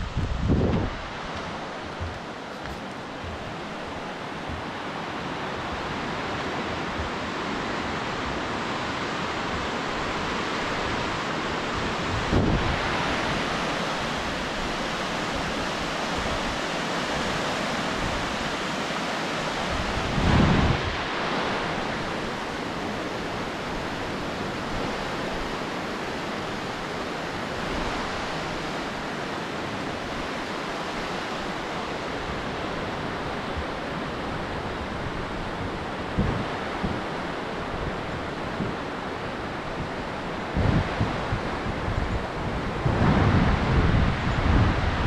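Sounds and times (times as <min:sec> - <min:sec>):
river rushing: 0:00.0 - 0:45.0
wind buffeting microphone: 0:00.0 - 0:45.0.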